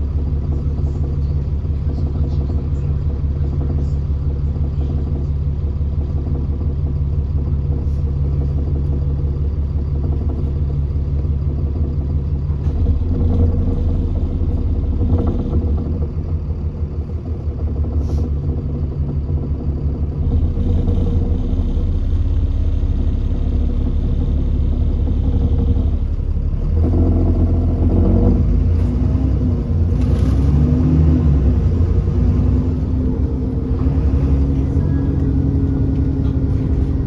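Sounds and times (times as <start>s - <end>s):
bus diesel engine drone: 0.0s - 37.0s.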